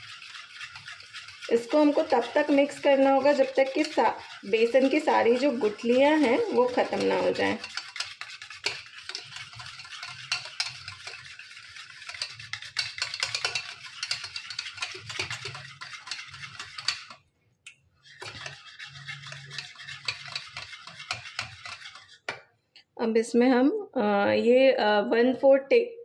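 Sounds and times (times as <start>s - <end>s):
wire whisk scraping metal bowl: 0.0s - 17.2s, 18.0s - 22.5s.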